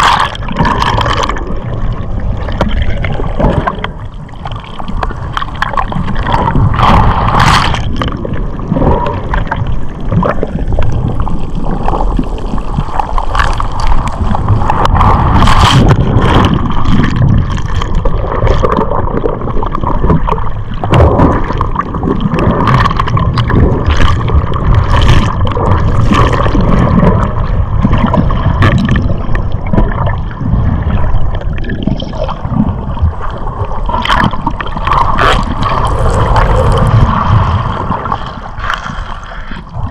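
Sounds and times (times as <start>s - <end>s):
sharp crackles and splashes: 0.0s - 39.9s
turbulent water rushing underwater: 0.0s - 39.9s.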